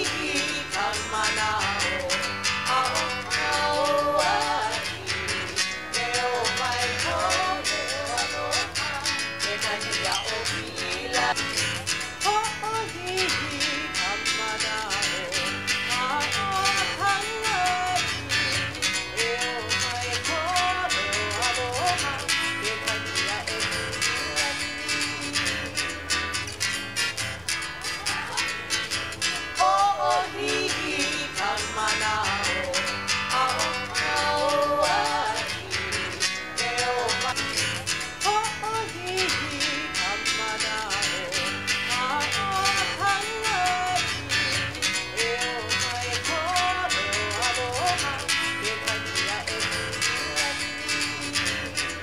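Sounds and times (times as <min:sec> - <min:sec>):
strummed guitar music: 0:00.0 - 0:52.0.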